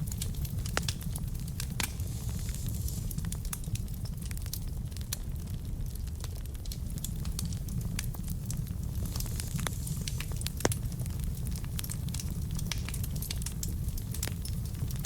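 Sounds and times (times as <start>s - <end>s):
burning logs crackling and popping: 0.0s - 15.0s
flames rumbling: 0.0s - 15.0s.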